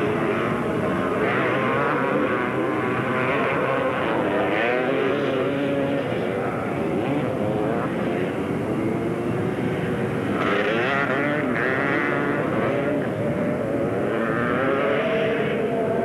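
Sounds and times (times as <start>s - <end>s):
racing engines revving: 0.0s - 16.0s.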